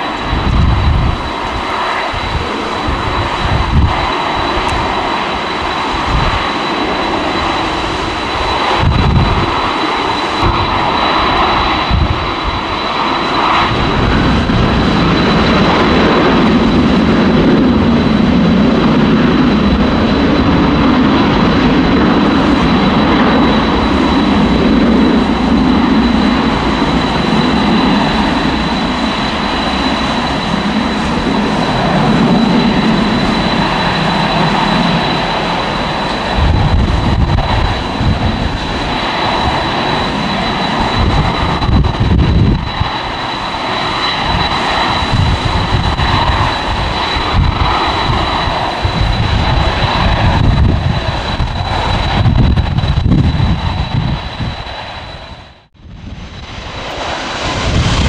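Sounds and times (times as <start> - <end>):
jet engines at takeoff power: 0.0 - 58.0.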